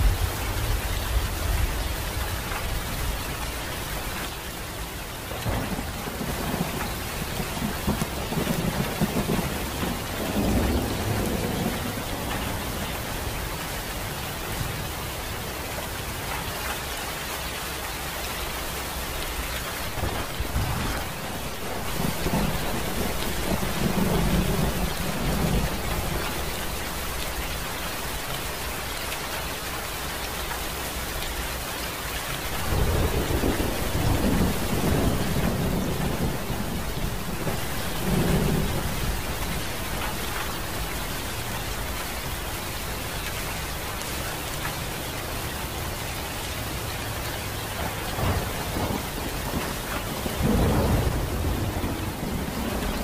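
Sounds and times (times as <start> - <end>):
thunder rumbling: 0.0 - 4.2, 5.2 - 15.6, 18.9 - 31.1, 32.3 - 45.0, 47.6 - 53.0
steady rain: 0.0 - 53.0.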